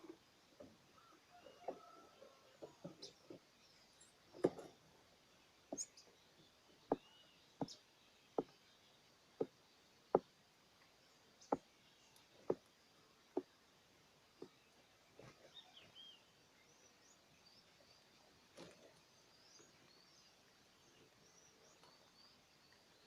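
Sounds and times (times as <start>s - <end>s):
faint bird chirps: 0.0s - 9.9s, 10.8s - 23.0s.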